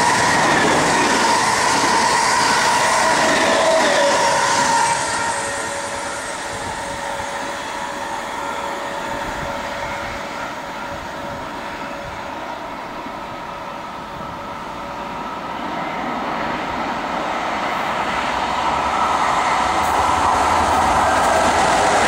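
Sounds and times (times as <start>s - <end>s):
train carriages rushing past: 0.0s - 22.0s
train steady whine: 0.0s - 22.0s.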